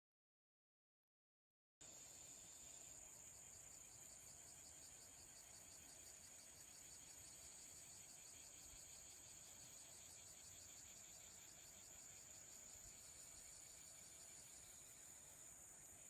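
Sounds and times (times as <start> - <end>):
high-pitched insect trill: 1.8 - 16.0.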